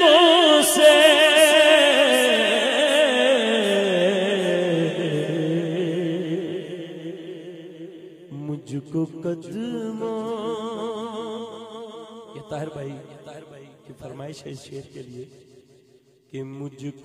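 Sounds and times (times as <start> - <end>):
man chanting: 0.0 - 15.4, 16.3 - 17.0.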